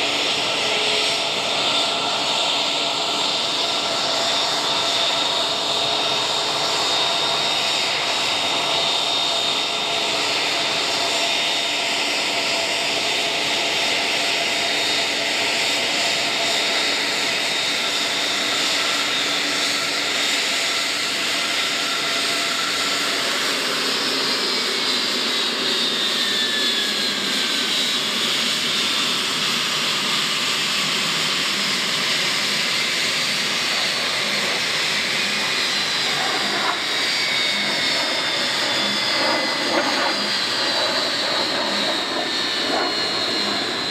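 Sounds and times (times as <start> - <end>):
jet engines roaring with whine: 0.0 - 43.9.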